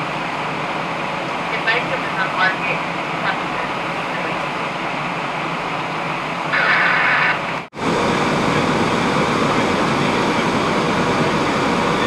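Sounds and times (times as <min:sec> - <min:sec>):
fire engine pumping water: 0:00.0 - 0:12.0.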